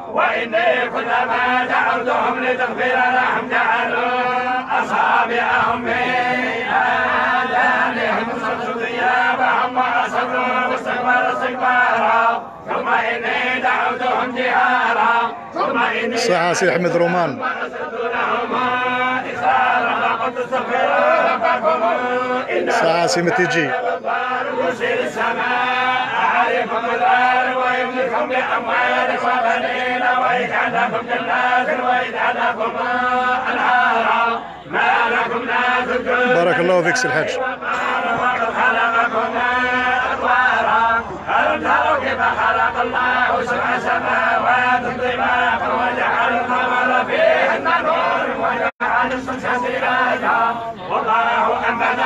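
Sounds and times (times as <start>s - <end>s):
men chanting together: 0.0s - 52.0s.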